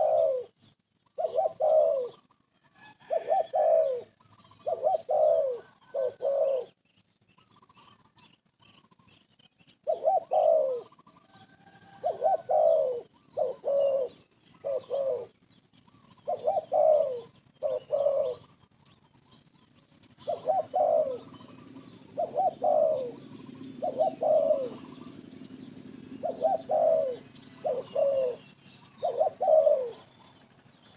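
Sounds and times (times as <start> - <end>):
dove cooing: 0.0 - 30.9
low steady hum: 3.8 - 30.9.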